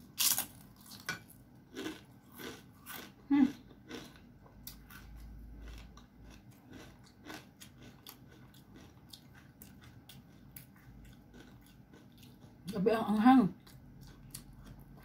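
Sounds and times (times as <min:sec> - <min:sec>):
person chewing: 0:00.1 - 0:12.7, 0:13.6 - 0:15.0.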